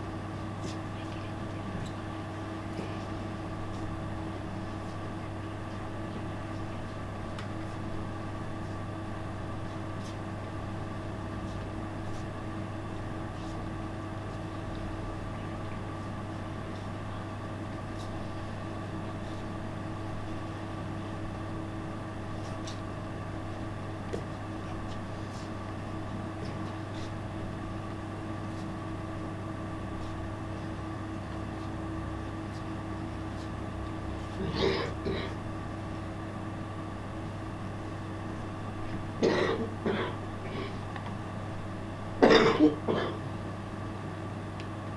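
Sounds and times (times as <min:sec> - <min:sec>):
low mechanical drone: 0:00.0 - 0:43.4.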